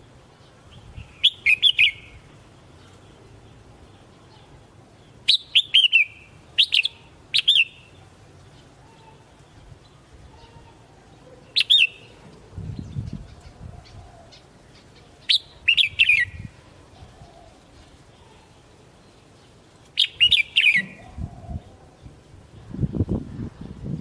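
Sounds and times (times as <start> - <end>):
bird singing bright phrases: 0.0 - 24.0.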